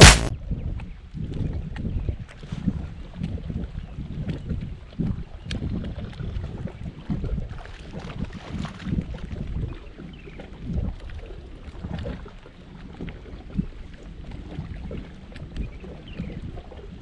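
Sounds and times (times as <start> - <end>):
wind buffeting microphone: 0.3 - 12.3, 13.2 - 17.0
water lapping against hull: 0.4 - 17.0.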